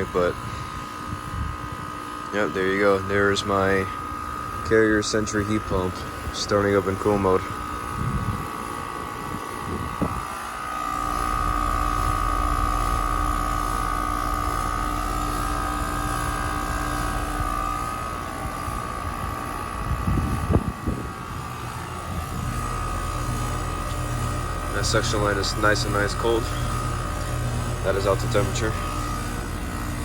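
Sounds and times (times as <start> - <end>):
heat pump running: 0.0 - 30.0
steady whine: 0.0 - 30.0.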